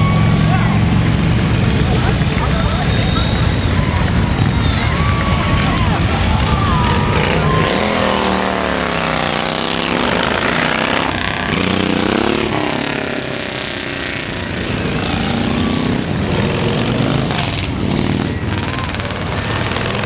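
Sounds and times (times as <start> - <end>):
motorcycles riding past: 0.0 - 20.0.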